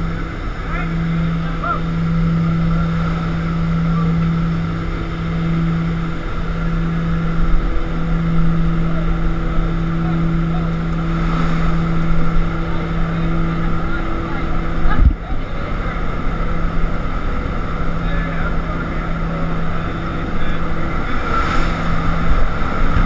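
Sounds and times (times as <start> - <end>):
turboprop engines droning: 0.0 - 23.0.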